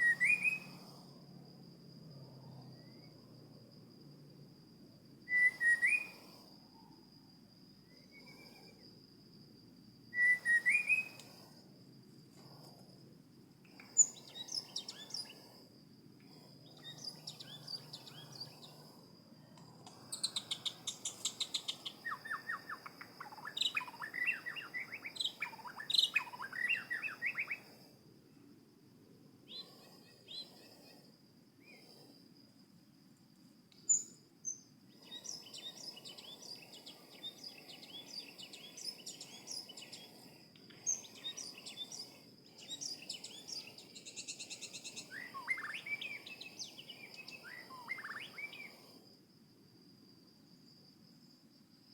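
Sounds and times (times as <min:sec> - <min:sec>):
songbirds chirping: 0:00.0 - 0:01.2, 0:02.0 - 0:28.0, 0:29.4 - 0:32.1, 0:33.7 - 0:49.0.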